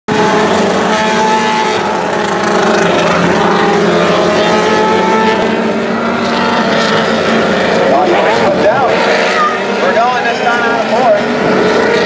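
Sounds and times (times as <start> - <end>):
racing car engines at high revs: 0.1 - 12.0.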